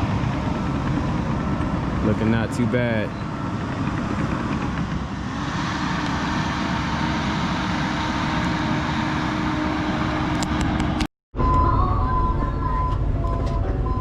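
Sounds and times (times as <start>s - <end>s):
steady high whine: 0.0s - 13.7s
diesel machinery humming: 0.0s - 14.0s.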